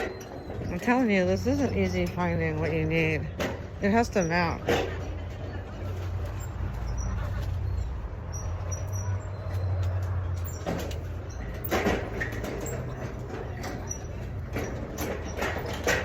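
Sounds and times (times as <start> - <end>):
wagon rolling rumble: 0.0 - 16.0.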